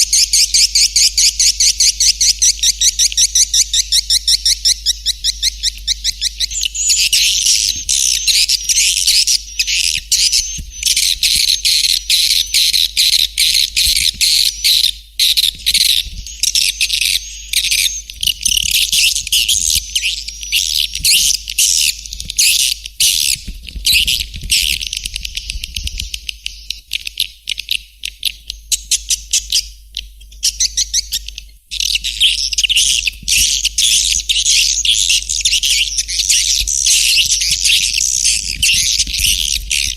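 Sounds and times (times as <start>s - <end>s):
swiftlets chirping and twittering: 0.0s - 26.7s, 30.4s - 39.9s.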